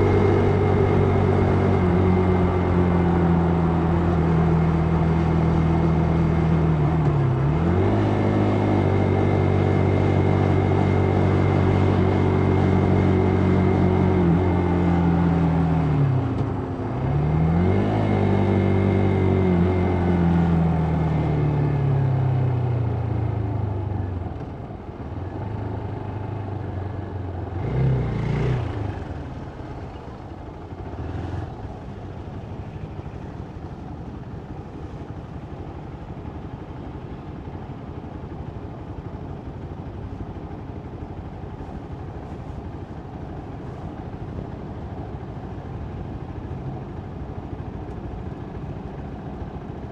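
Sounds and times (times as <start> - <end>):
wind and road noise: 0.0 - 49.9.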